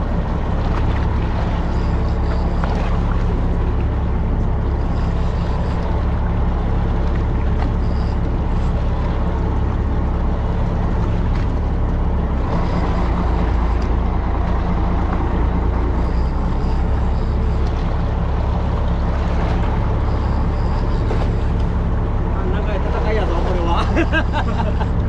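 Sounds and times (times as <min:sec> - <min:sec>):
boat engine droning: 0:00.0 - 0:25.0
water noise: 0:00.0 - 0:25.0.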